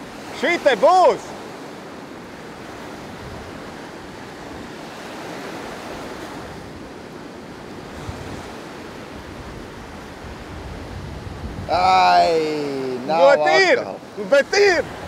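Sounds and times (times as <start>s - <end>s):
sea waves washing: 0.0s - 15.0s
wind on microphone: 2.2s - 13.2s, 13.9s - 15.0s.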